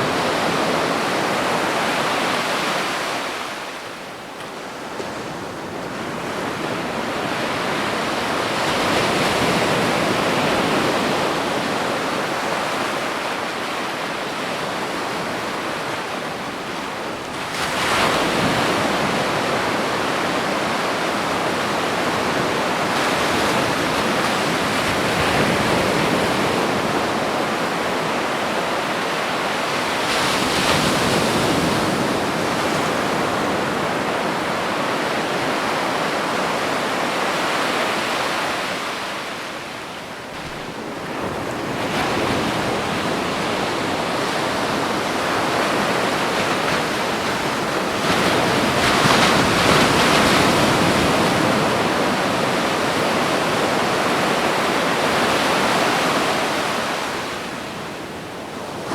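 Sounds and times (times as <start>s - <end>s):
ocean waves breaking on beach: 0.0s - 58.9s.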